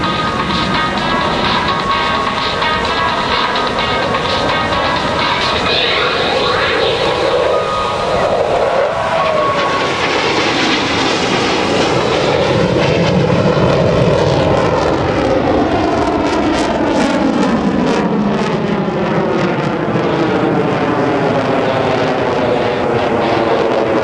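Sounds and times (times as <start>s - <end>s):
fighter jet flying past: 0.0s - 24.0s.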